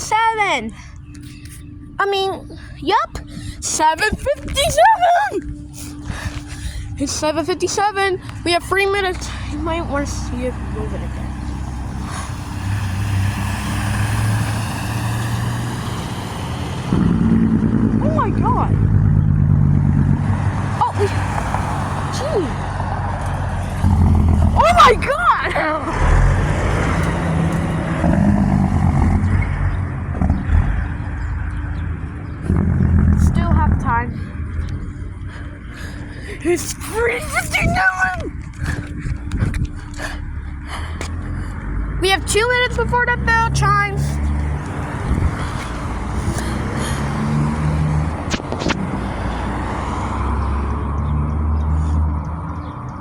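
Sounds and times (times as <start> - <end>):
road noise: 0.0 - 53.0
vehicle engine rumbling: 0.0 - 53.0.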